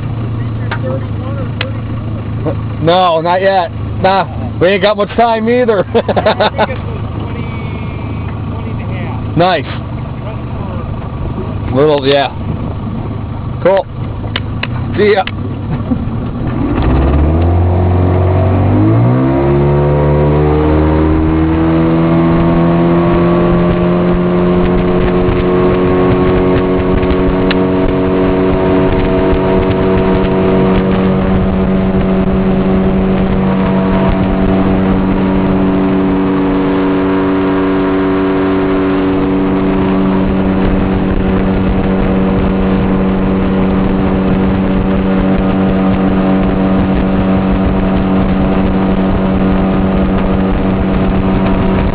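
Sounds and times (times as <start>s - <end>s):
motorboat engine: 0.0s - 51.9s.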